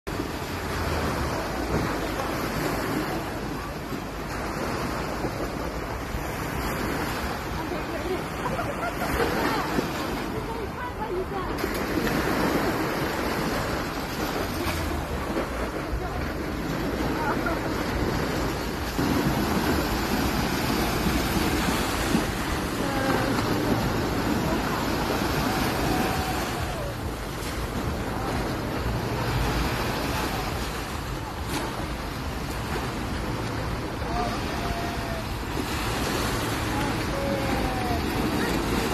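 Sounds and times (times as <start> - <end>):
wind rumbling on microphone: 0.0 - 38.9
small waves washing onto beach: 0.1 - 38.9.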